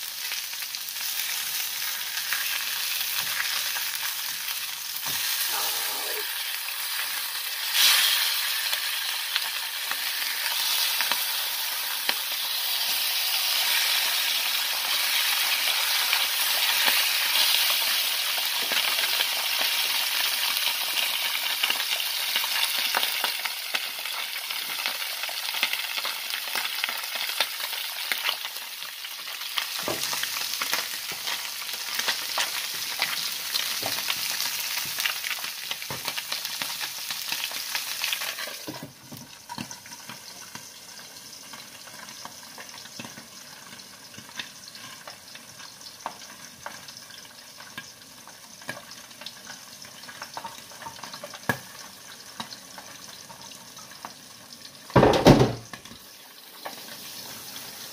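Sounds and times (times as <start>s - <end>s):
fish frying in oil: 0.0s - 57.9s.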